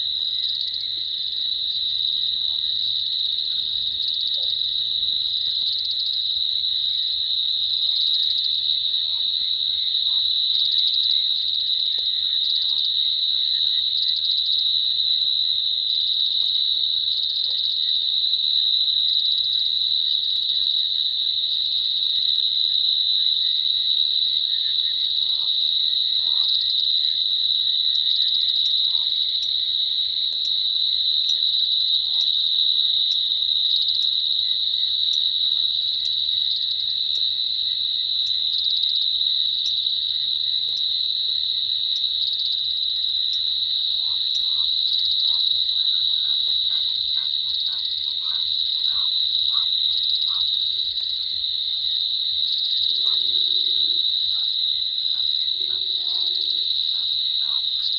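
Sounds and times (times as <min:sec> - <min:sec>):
insects trilling: 0:00.0 - 0:57.9
short lower insect calls: 0:00.0 - 0:57.9.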